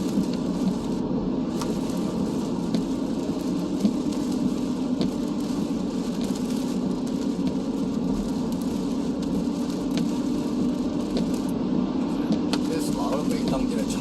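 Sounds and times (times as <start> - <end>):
car road and engine rumble: 0.0 - 14.0
rain tapping on car: 0.0 - 14.0.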